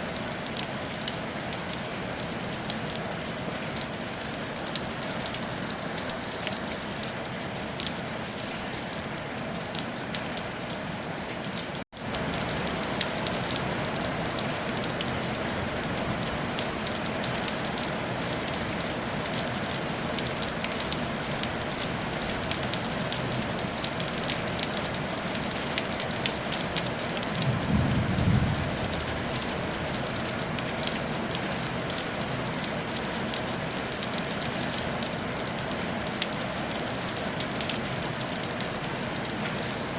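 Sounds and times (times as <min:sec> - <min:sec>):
rain on a tile roof: 0:00.0 - 0:39.9.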